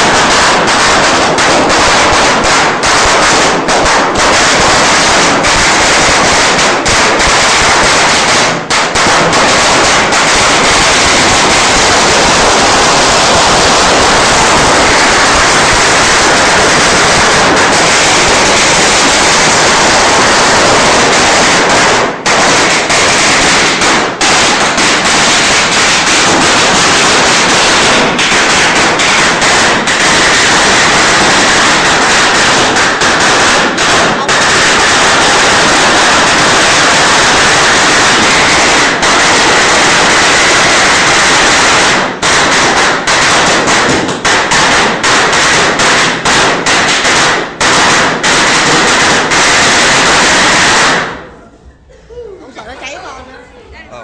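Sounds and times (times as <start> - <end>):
firecrackers banging: 0.0 - 52.1.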